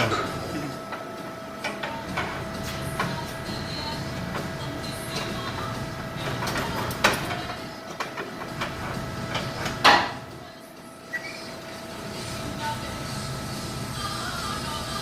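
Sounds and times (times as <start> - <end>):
steady hum of shop noise: 0.0 - 15.0.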